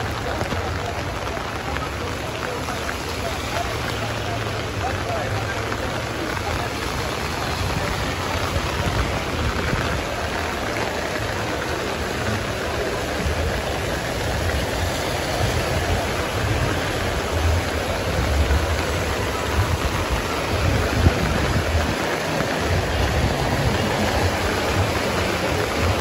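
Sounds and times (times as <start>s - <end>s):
rain on a wet street: 0.0s - 26.0s
traffic rumble: 0.0s - 26.0s.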